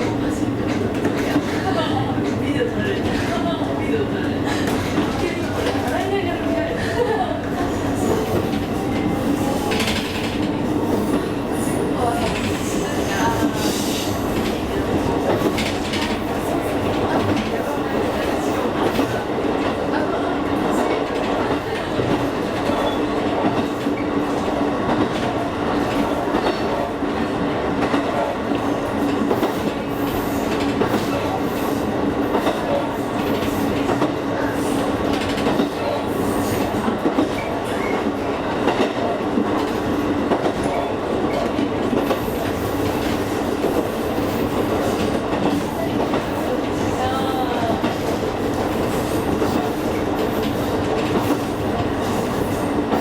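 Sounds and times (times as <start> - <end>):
train rolling rumble: 0.0 - 53.0.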